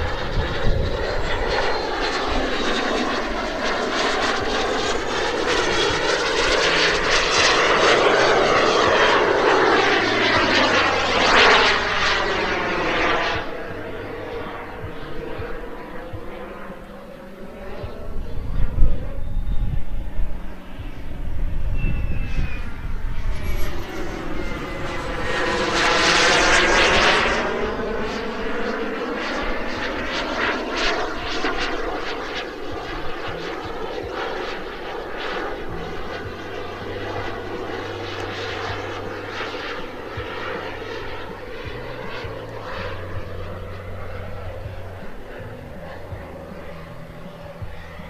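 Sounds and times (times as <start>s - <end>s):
jet turbine rush and whine: 0.0s - 48.0s.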